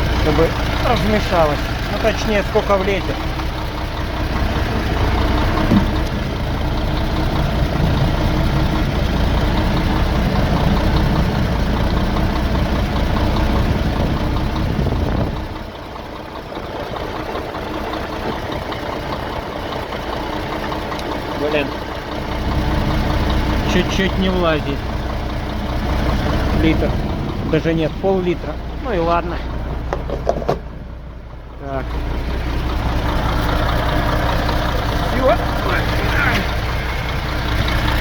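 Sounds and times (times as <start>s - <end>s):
diesel truck engine idling: 0.0s - 38.0s.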